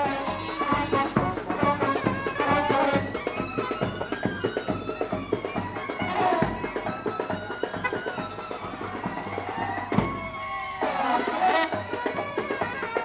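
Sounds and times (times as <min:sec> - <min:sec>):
fast steady drumming: 0:00.0 - 0:13.0
wind instrument melody: 0:00.0 - 0:13.0.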